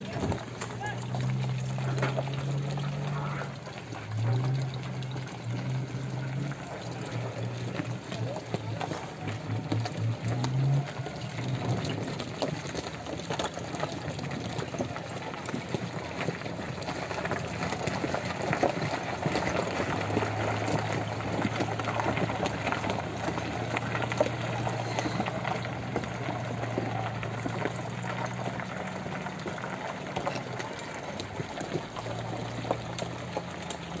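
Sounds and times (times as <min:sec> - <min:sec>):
crackling splashing water: 0:00.0 - 0:34.0.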